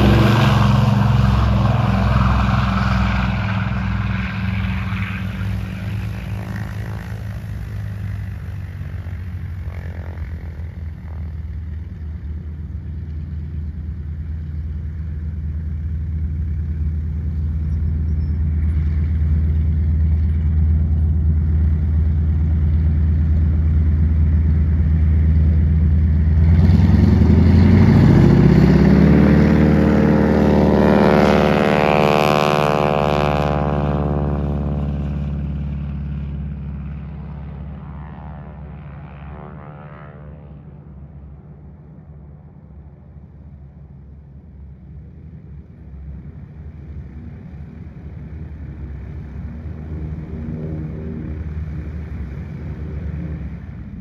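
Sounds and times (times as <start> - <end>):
propeller aircraft engines droning: 0.0 - 54.0
propeller rasp: 0.0 - 54.0.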